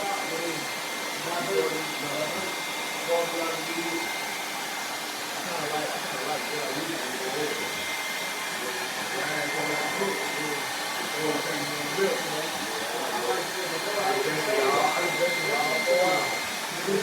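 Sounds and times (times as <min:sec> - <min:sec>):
faint muffled voices: 0:00.0 - 0:04.4, 0:05.4 - 0:17.0.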